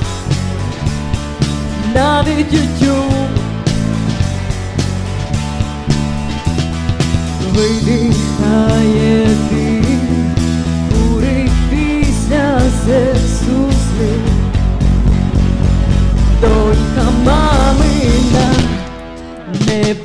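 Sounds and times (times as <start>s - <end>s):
heavy bass line: 0.0s - 19.6s
rock song: 0.0s - 20.0s
steady drum beat: 0.0s - 20.0s.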